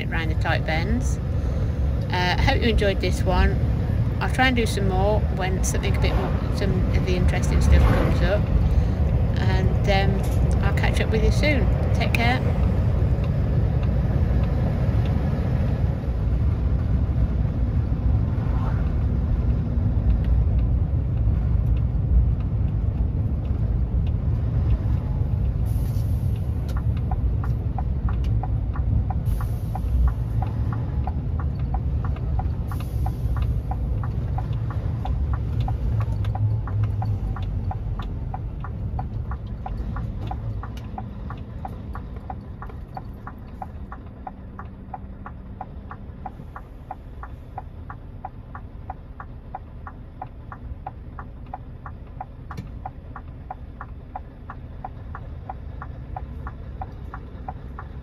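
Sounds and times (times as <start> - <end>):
lorry engine rumble: 0.0 - 58.0
turn indicator ticking: 0.0 - 58.0.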